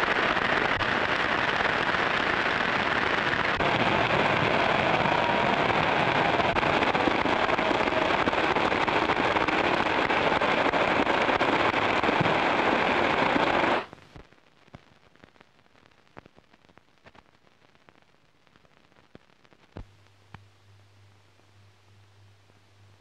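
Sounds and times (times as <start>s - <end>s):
film soundtrack hiss and crackle: 0.0s - 23.0s.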